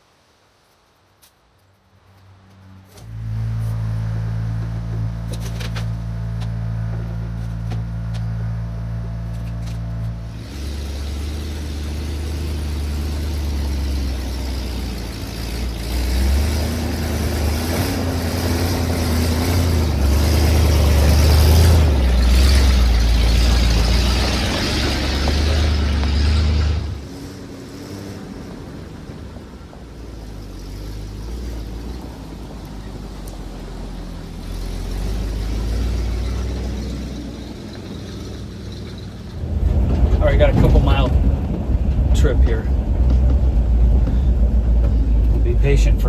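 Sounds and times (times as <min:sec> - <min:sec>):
road noise: 0:00.0 - 0:46.0
truck pulling away under load: 0:02.6 - 0:46.0
truck engine idling: 0:03.0 - 0:27.4, 0:28.2 - 0:46.0.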